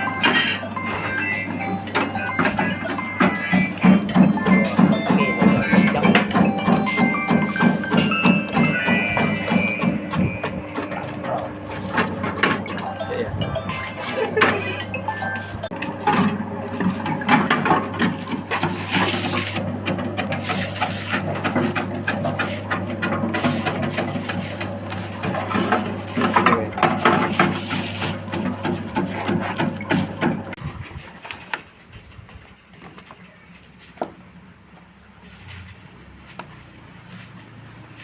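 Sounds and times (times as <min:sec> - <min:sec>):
cutting machine clattering: 0:00.1 - 0:30.6.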